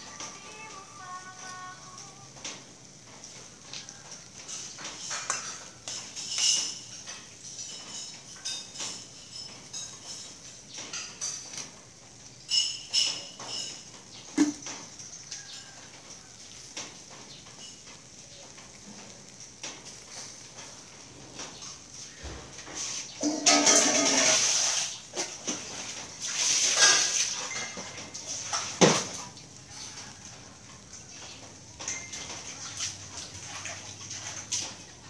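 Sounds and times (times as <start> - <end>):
ribs sizzling on a grill: 0.0 - 35.0.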